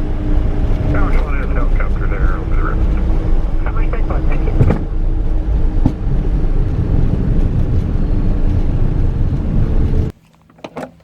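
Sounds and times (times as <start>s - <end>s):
wind noise on microphone: 0.0s - 10.1s
jet aircraft rumble: 0.0s - 10.2s.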